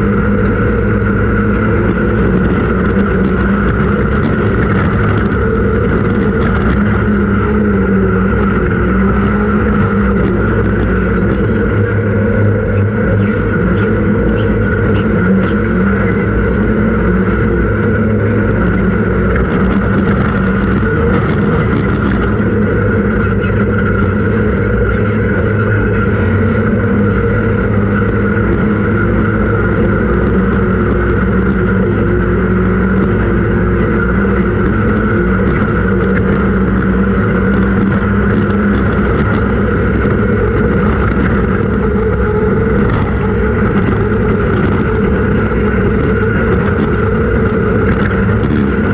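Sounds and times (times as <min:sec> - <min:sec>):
race vehicle engine droning: 0:00.0 - 0:48.9.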